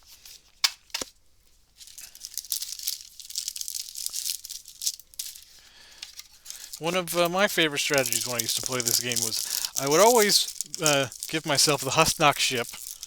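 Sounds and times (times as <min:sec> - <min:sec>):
wrapper crackling torn open: 0:01.8 - 0:13.0.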